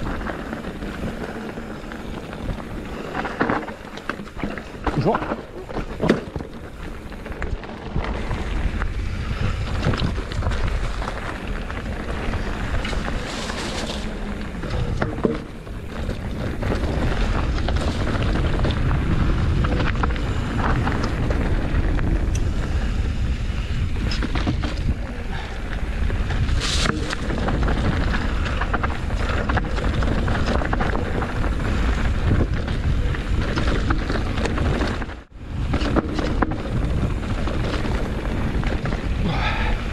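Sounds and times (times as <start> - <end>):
bike rattling and knocking: 0.0 - 39.9
wind buffeting microphone: 0.0 - 39.9.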